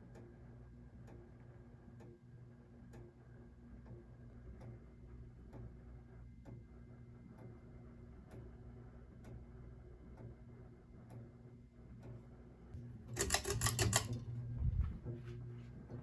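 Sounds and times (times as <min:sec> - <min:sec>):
ceiling fan motor hum: 0:00.0 - 0:16.0.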